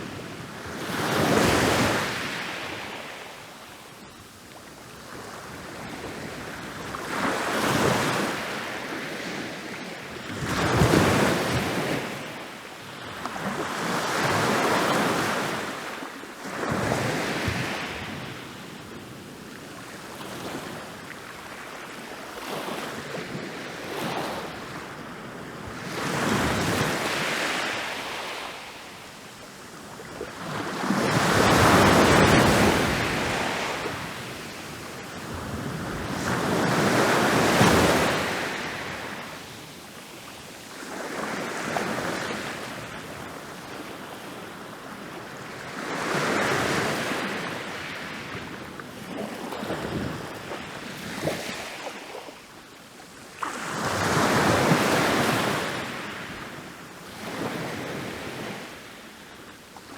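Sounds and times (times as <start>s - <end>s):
ocean waves breaking on beach: 5.0s - 59.9s.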